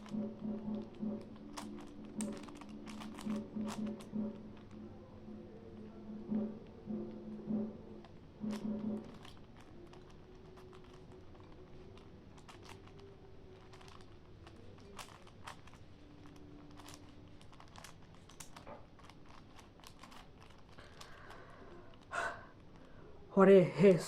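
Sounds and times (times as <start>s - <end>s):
puzzle cube clicking: 0.0s - 4.8s, 8.0s - 22.9s.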